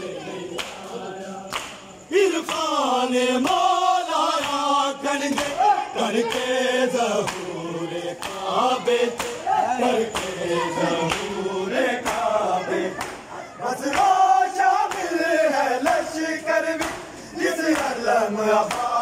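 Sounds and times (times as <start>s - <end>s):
men chanting in unison: 0.0s - 19.0s
hands slapping bare chests: 0.5s - 0.9s, 1.5s - 11.4s, 12.0s - 16.1s, 16.7s - 19.0s.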